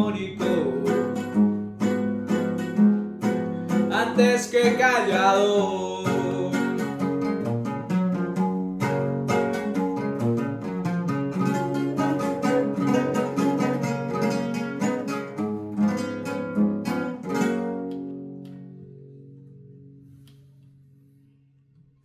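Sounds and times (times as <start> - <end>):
bandola strummed and plucked: 0.0 - 22.0.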